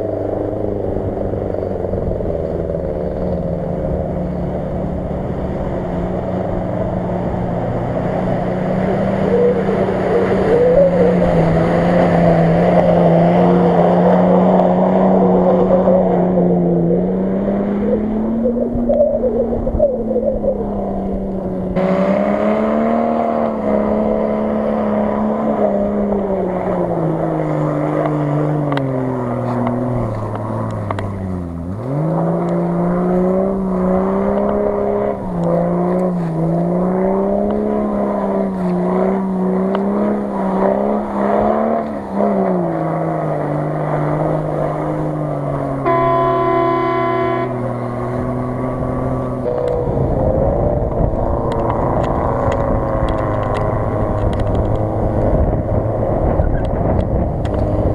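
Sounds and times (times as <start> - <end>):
off-road engines revving: 0.0 - 57.9.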